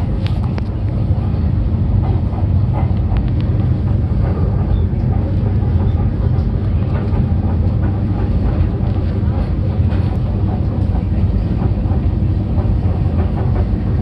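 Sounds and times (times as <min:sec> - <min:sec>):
steady low rumble: 0:00.0 - 0:14.0
train wheels clattering over rails: 0:00.1 - 0:14.0.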